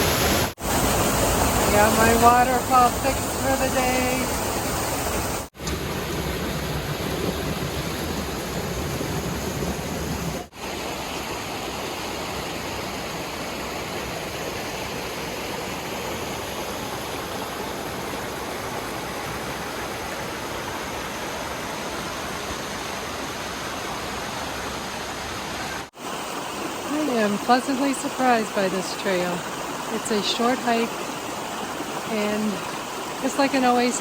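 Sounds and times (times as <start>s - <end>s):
creek and waterfall rushing: 0.0s - 34.0s.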